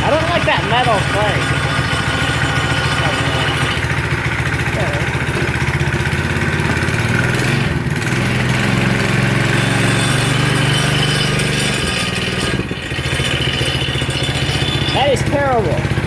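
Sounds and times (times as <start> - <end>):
mini bike engine running: 0.0 - 16.0.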